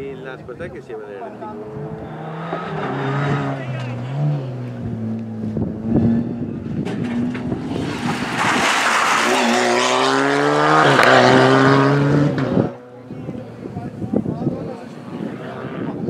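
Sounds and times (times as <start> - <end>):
rally car engine at high revs: 1.4 - 13.2, 14.9 - 16.0.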